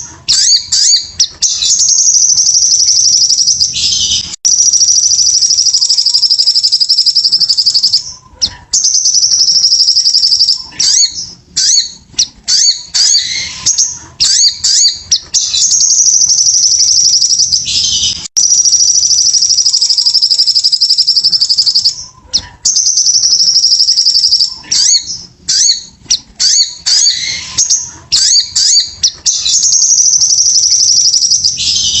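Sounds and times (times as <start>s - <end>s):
bird high-pitched trills: 0.0s - 8.2s, 8.8s - 22.1s, 22.7s - 32.0s
bird choppy chirps: 0.0s - 32.0s.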